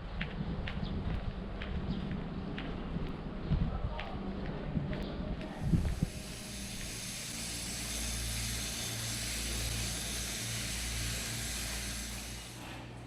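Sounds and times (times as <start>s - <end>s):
electric train rumbling and hissing: 0.0s - 13.0s.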